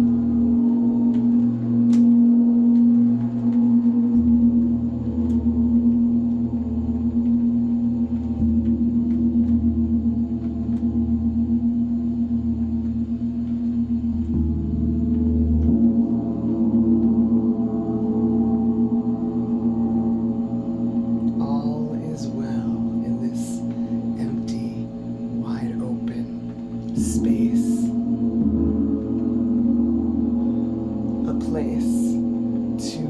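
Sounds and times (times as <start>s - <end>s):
gong deep wavering tones: 0.0s - 33.0s
low hum: 0.0s - 33.0s.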